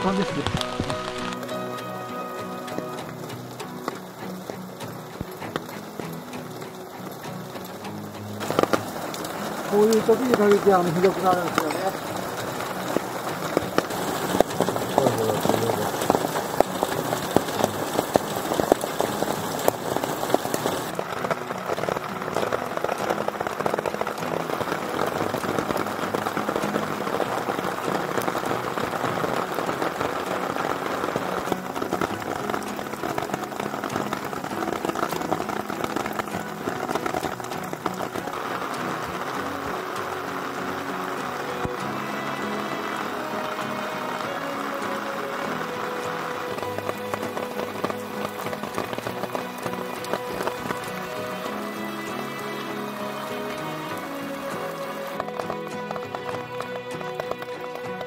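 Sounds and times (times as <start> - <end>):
heavy rain on dirt ground: 0.0 - 58.0.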